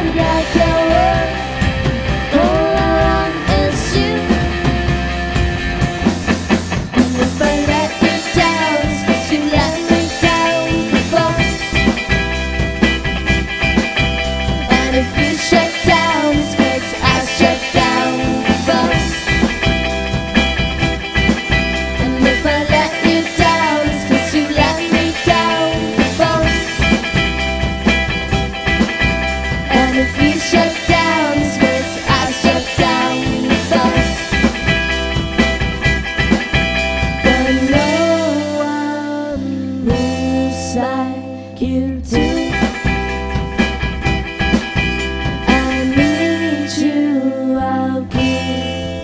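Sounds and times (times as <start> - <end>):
steady drum beat: 0.0 - 38.7, 42.2 - 46.8
live rock band playing: 0.0 - 49.0
sliding lead melody: 0.0 - 49.0.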